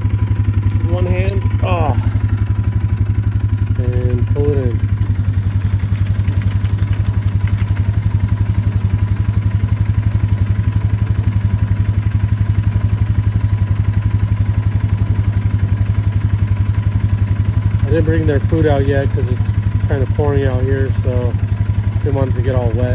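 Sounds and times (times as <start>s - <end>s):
small engine idling: 0.0s - 22.9s.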